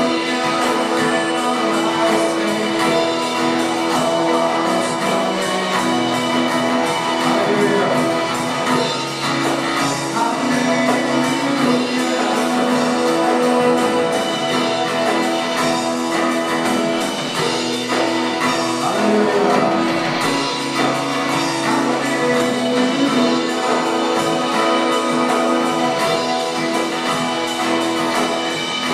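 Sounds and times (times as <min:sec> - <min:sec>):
band playing worship music: 0:00.0 - 0:28.9
guitar: 0:00.0 - 0:28.9.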